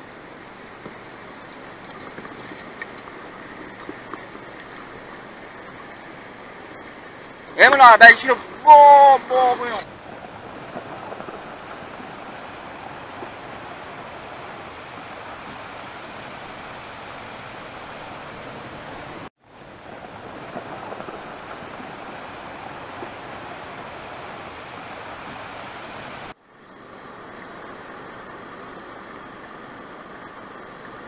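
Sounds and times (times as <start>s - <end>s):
river water rushing over stones: 0.0s - 31.0s.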